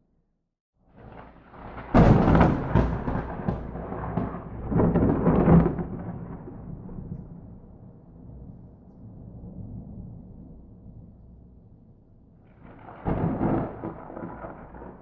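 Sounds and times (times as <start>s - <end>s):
thunder rumbling and cracking: 0.9s - 11.7s, 12.4s - 15.0s.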